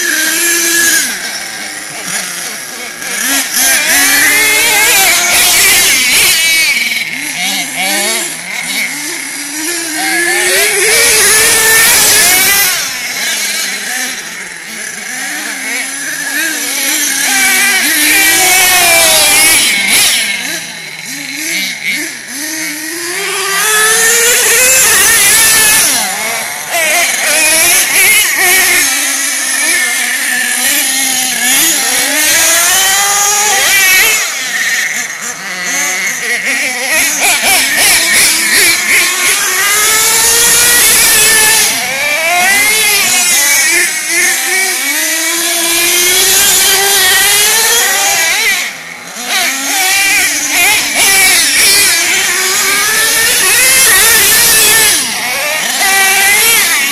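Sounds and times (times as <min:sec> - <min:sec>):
rc truck engine revving: 0:00.0 - 0:56.9.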